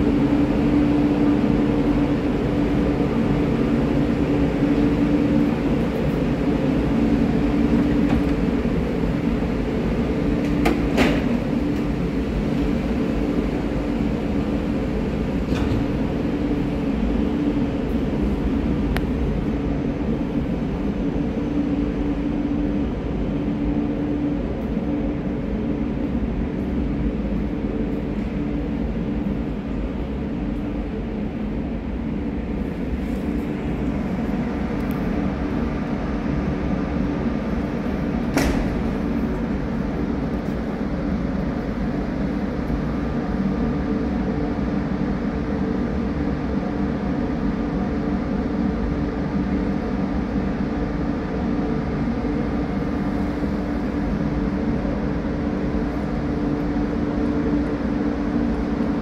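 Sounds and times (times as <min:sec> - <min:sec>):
rail rumble: 0:00.0 - 0:59.0
ventilation hum: 0:00.0 - 0:59.0.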